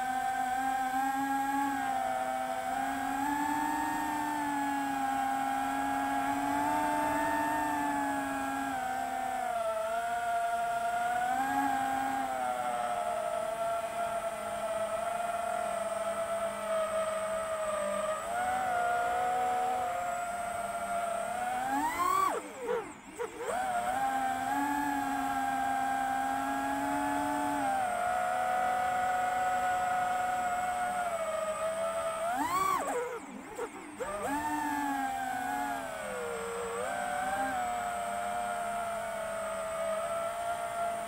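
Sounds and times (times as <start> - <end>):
drone motors whining: 0.0 - 41.0.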